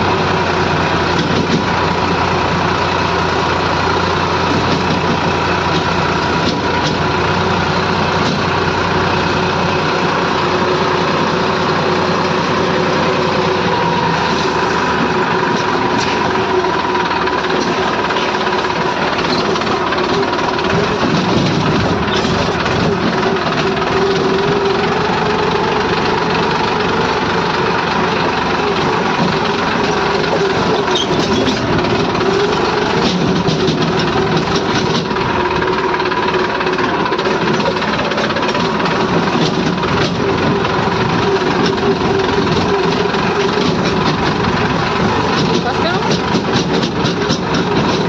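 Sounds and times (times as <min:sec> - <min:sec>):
construction machine engine running: 0:00.0 - 0:48.0.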